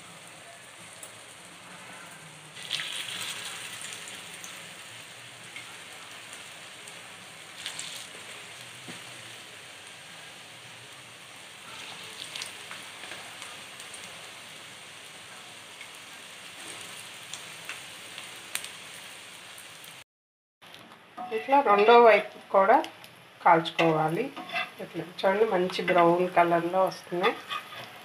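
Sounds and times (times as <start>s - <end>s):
patties sizzling in oil: 0.0s - 20.0s, 20.6s - 28.0s.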